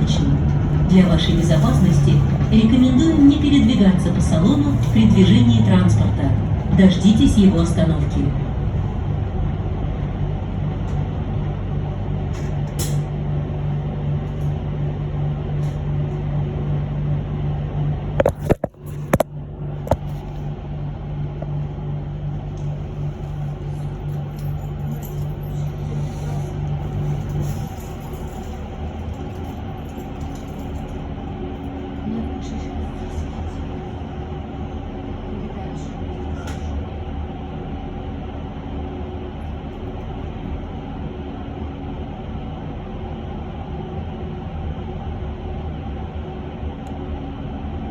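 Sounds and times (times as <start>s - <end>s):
bus cabin low hum: 0.0s - 47.9s.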